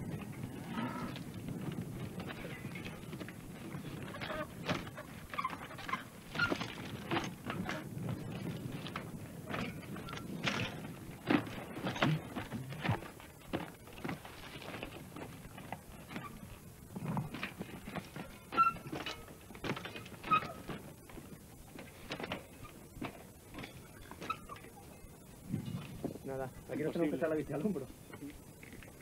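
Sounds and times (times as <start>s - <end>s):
bike wheels clattering on rock: 0.0s - 29.0s.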